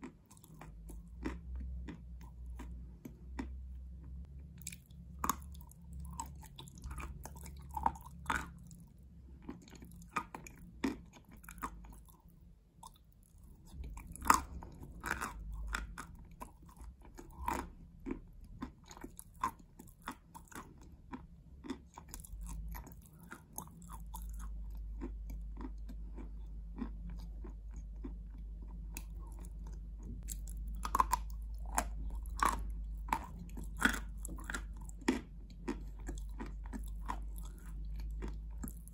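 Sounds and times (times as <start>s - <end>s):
crunching and chewing chalk: 0.0s - 38.9s
low steady hum: 0.0s - 38.9s.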